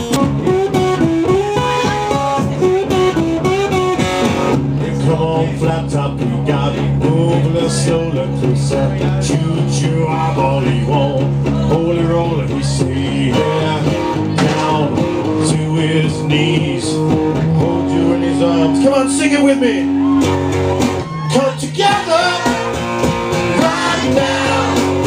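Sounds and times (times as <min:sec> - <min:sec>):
man singing: 0:00.0 - 0:03.2, 0:04.5 - 0:20.0, 0:21.2 - 0:25.0
guitar playing: 0:00.0 - 0:25.0.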